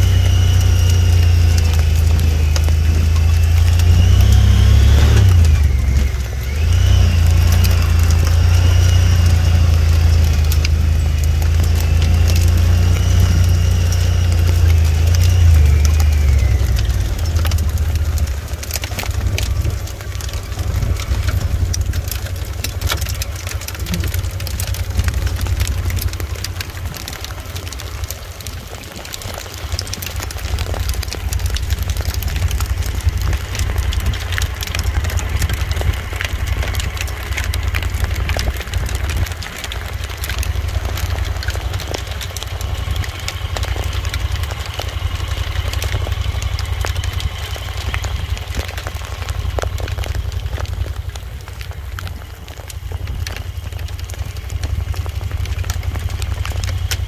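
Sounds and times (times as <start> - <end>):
vehicle rumbling on rough track: 0.0 - 57.0.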